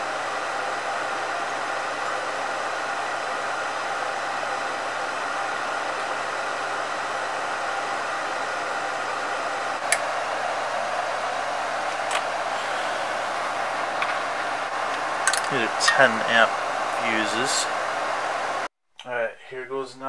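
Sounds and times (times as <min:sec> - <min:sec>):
fan blowing hiss: 0:00.0 - 0:18.7.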